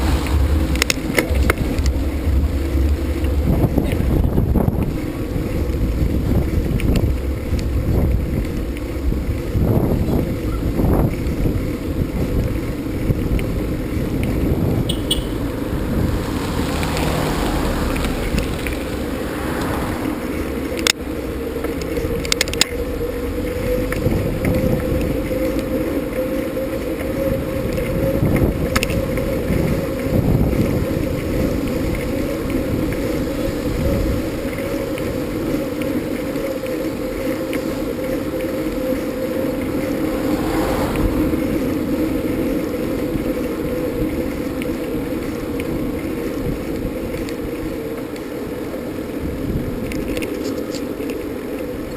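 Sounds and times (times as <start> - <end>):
vehicle running hum: 0.0 - 51.9.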